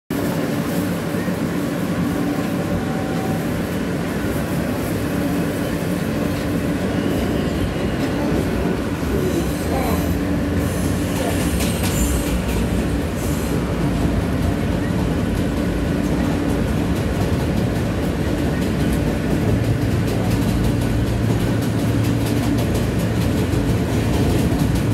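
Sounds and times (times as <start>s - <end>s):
train rumbling over rails: 0.1s - 24.9s.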